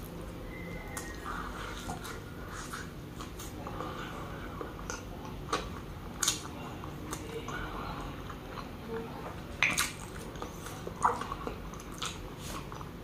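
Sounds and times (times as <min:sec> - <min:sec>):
man chewing food: 0:00.0 - 0:13.0.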